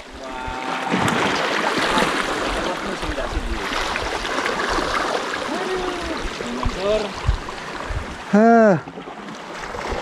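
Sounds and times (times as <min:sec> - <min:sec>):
waves splashing over rocks: 0:00.0 - 0:10.0.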